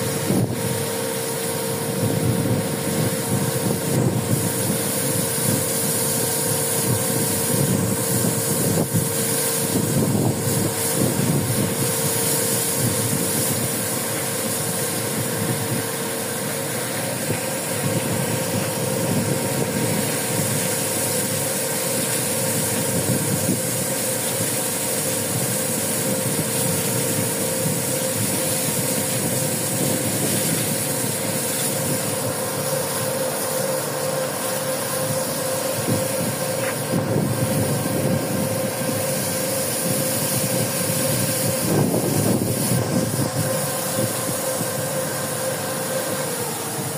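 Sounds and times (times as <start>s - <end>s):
boat engine droning: 0.0s - 46.9s.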